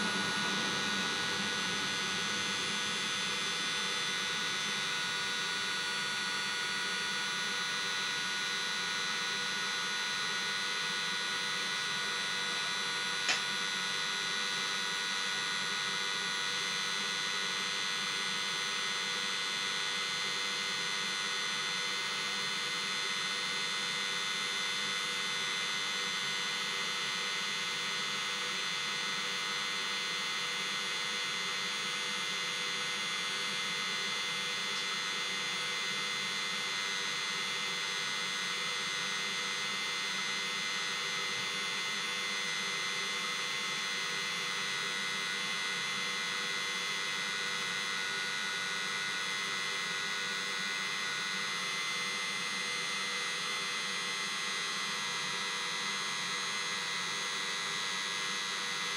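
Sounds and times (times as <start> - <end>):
diesel heater running: 0.0 - 18.8, 19.4 - 57.6
fan whine: 0.0 - 58.9.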